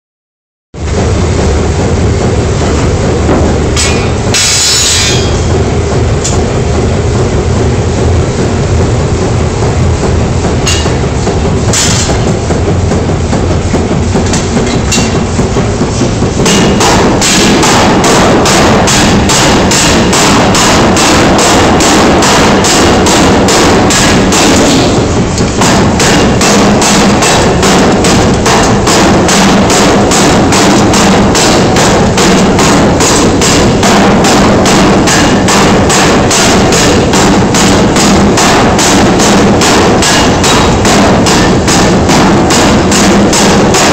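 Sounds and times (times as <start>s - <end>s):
machine humming: 0.8s - 43.9s
power hammer blows on hot steel: 0.8s - 43.9s.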